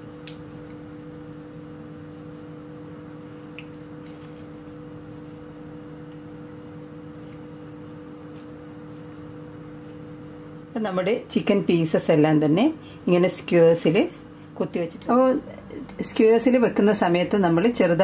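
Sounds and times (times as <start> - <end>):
steady two-tone background hum: 0.0 - 18.0.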